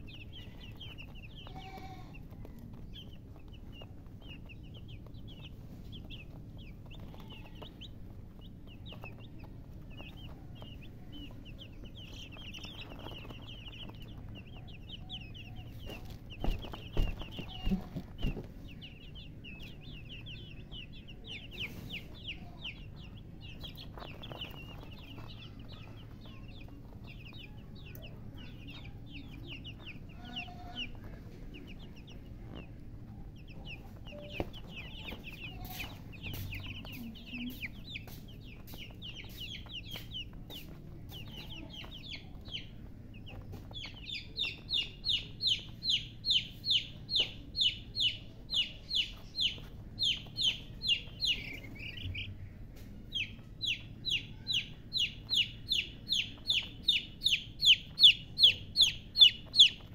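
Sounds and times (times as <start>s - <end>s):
baby chickens peeping: 0.0s - 59.9s
chick peeping loudly close by: 0.0s - 59.9s.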